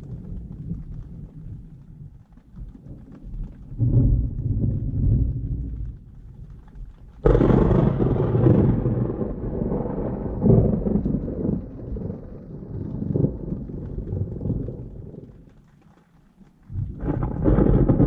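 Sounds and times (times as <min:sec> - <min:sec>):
thunderclap with rolling rumble: 0:00.0 - 0:15.6, 0:16.7 - 0:18.0.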